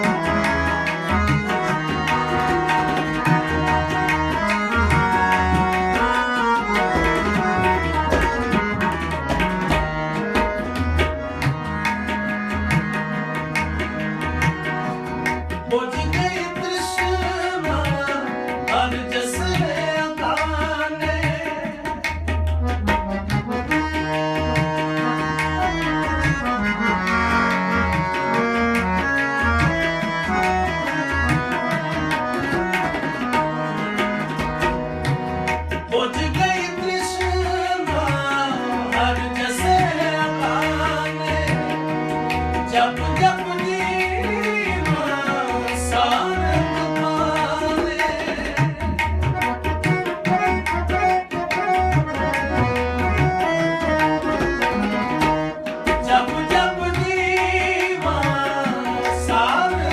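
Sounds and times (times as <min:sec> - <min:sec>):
harmonium chords: 0:00.0 - 0:59.9
tabla rhythm: 0:00.0 - 0:59.9.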